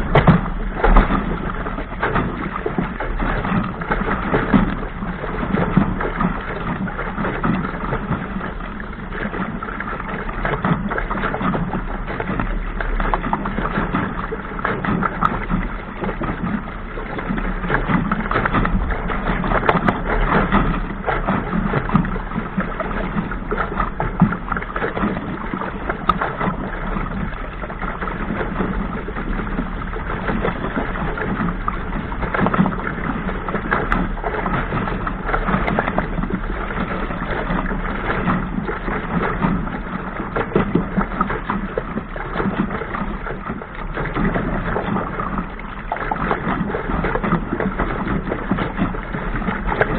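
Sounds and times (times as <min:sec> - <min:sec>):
boat hull rushing through waves: 0:00.0 - 0:49.9
water slapping against bow: 0:00.0 - 0:49.9.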